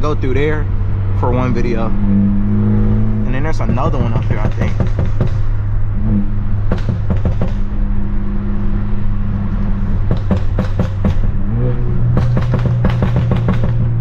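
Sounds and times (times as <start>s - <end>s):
car engine droning at low revs: 0.0s - 14.0s.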